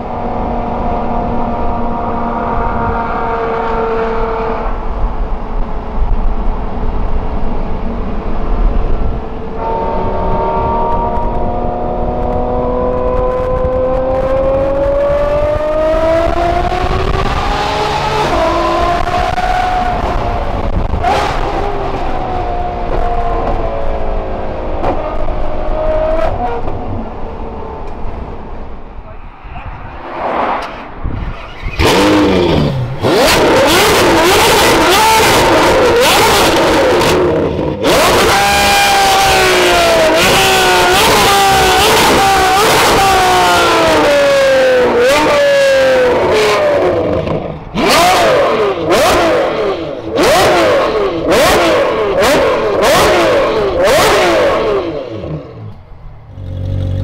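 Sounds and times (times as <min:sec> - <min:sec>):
car engine accelerating: 0:00.0 - 0:28.9, 0:30.2 - 0:57.0.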